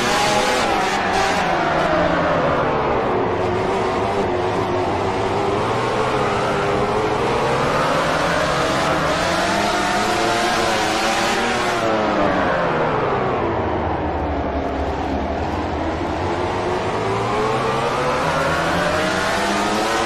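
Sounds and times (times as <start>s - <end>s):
racing motorcycle engine revving: 0.0s - 13.5s, 15.6s - 20.0s.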